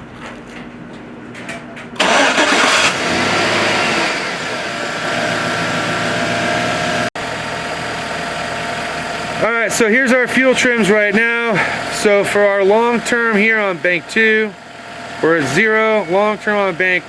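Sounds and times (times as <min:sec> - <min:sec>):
truck engine starting and idling: 0:02.0 - 0:17.0.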